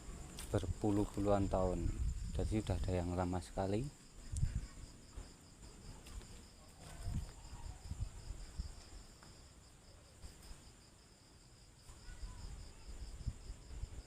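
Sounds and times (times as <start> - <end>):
crickets chirping: 0.0 - 14.0
insect trill: 0.0 - 14.0.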